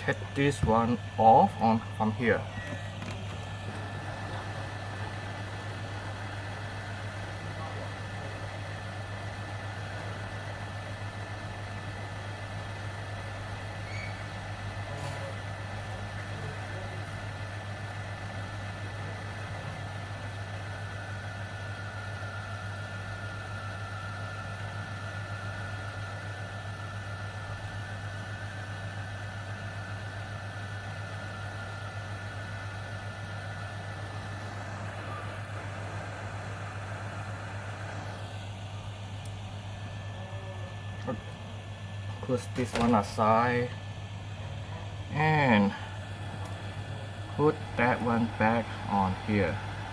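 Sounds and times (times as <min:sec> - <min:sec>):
faint high whine: 0:00.0 - 0:49.9.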